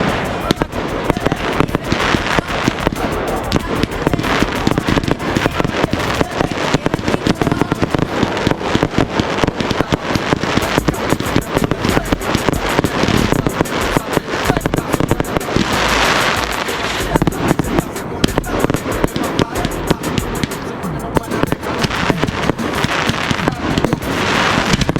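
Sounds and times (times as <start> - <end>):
fireworks bangs and crackling: 0.0 - 24.9.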